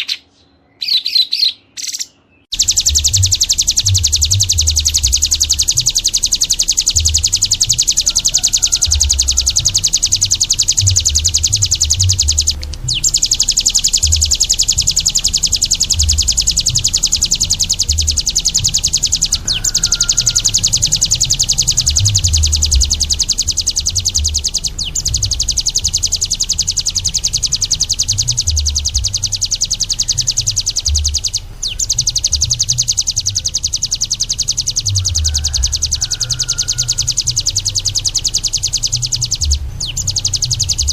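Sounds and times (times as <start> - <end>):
songbird high-pitched trill: 0.0 - 40.9
low irregular thuds: 2.5 - 33.8, 38.9 - 40.9.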